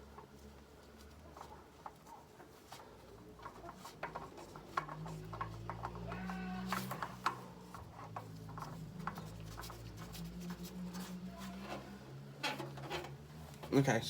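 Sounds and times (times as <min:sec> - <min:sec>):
oil filter scraping and clicking: 0:00.1 - 0:13.7.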